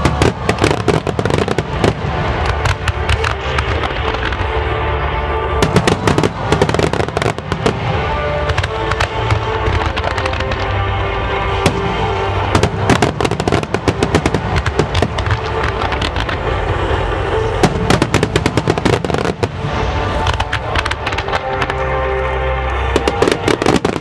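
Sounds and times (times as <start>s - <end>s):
fireworks bursting and crackling: 0.0s - 24.0s
music with sustained notes: 0.0s - 24.0s.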